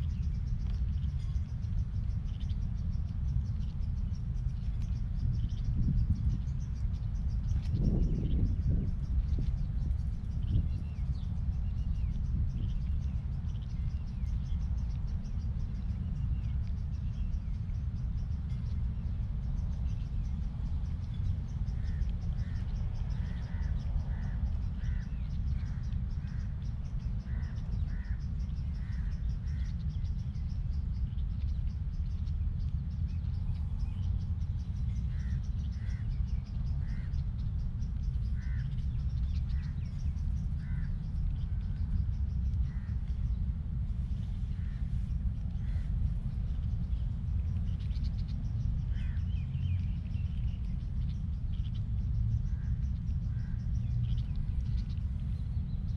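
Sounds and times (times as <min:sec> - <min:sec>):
low outdoor rumble: 0:00.0 - 0:55.9.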